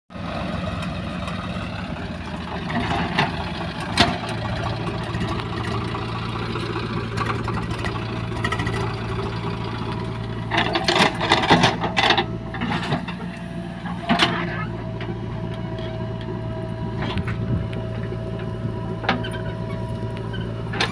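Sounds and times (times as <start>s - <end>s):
diesel engine running: 0.1s - 20.9s.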